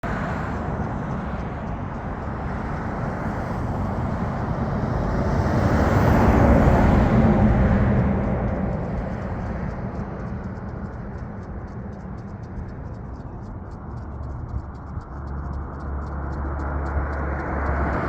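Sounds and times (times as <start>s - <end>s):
road vehicle passing: 0.0s - 18.0s.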